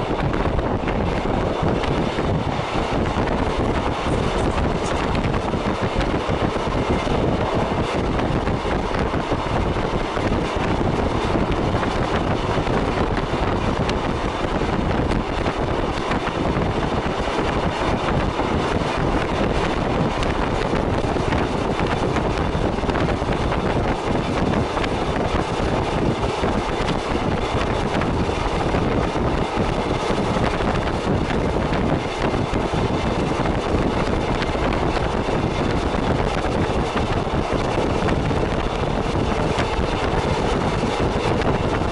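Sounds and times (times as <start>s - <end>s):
electric railcar running: 0.0s - 41.9s
wind on microphone: 0.0s - 41.9s.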